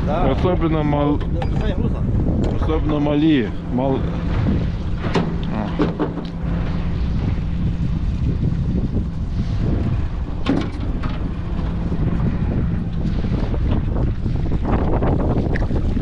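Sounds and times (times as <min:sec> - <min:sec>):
outboard motor humming: 0:00.0 - 0:16.0
wind buffeting microphone: 0:00.0 - 0:16.0.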